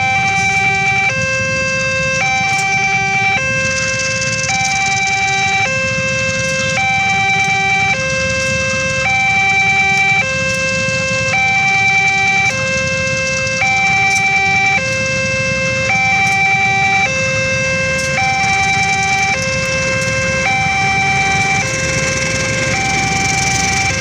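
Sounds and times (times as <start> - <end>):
two-tone crossing warning alarm: 0.0 - 24.0.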